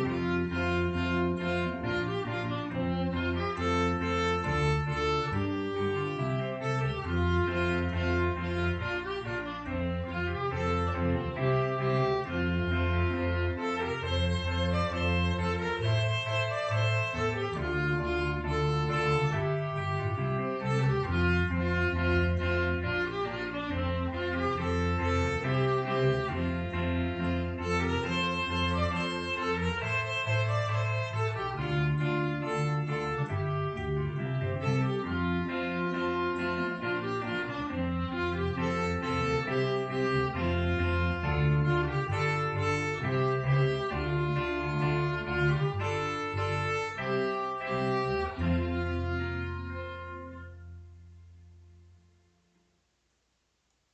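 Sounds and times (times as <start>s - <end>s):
string ensemble playing a hymn: 0.0s - 50.6s.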